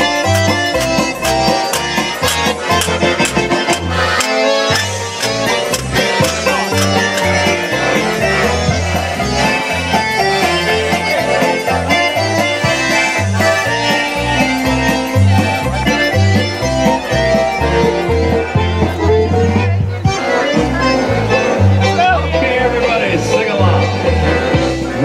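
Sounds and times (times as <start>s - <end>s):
accordion-led music: 0.0s - 25.0s.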